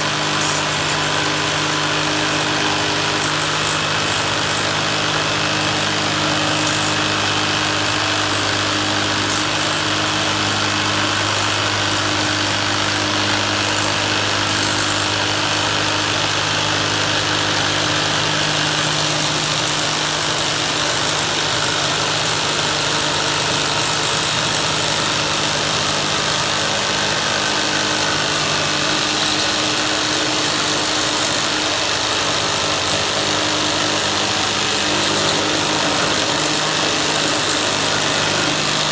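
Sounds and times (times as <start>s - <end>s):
power saw cutting plastic sheet: 0.0s - 38.9s.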